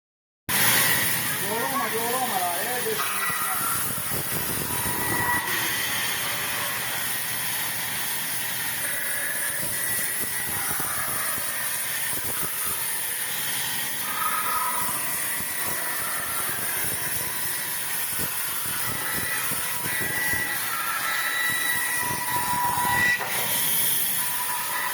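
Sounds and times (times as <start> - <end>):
faint machine whine: 0.5 - 24.9
sawmill machinery running: 0.5 - 24.9.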